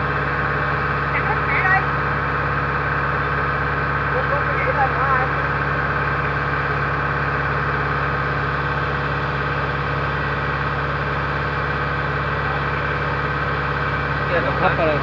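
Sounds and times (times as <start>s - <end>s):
harvester diesel engine running: 0.0s - 15.0s.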